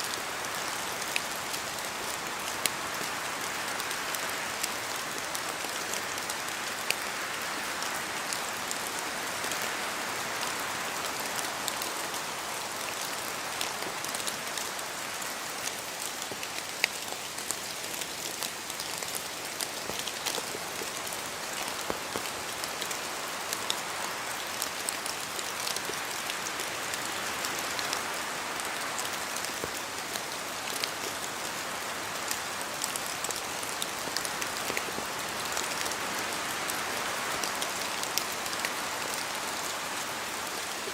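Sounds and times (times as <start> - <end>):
steady rain in forest: 0.0 - 40.9.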